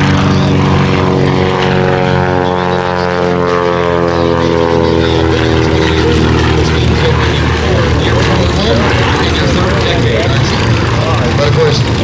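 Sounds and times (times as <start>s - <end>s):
propeller plane flying by: 0.0s - 12.0s.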